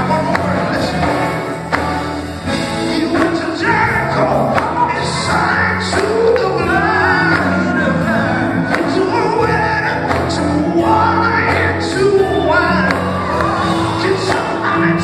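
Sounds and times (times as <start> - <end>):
band with drums and bass: 0.0 - 15.0
lead singer into microphone: 0.0 - 15.0.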